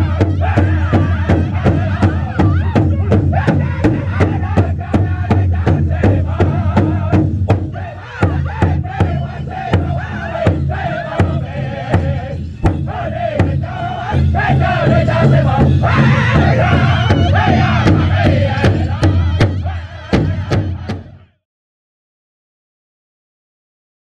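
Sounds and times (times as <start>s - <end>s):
large hide drum beat: 0.0s - 21.2s
group singing high-pitched in unison: 0.0s - 21.4s.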